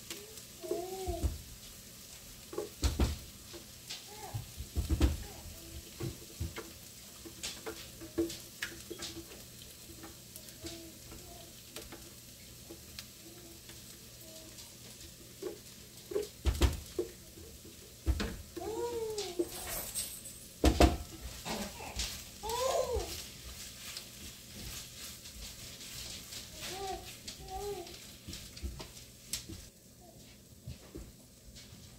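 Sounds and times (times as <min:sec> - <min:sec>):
food sizzling in pan: 0:00.0 - 0:31.9.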